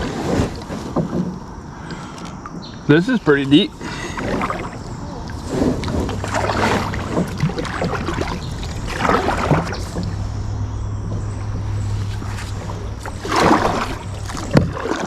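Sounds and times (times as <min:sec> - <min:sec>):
kayak paddle splashing in water: 0:00.0 - 0:15.0
steady low hum: 0:00.0 - 0:15.0.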